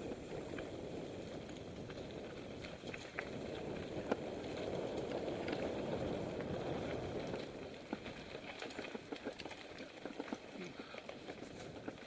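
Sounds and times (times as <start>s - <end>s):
bike clicks and rattles: 0.0s - 12.0s
bike tyres rumbling on stones: 0.0s - 12.0s.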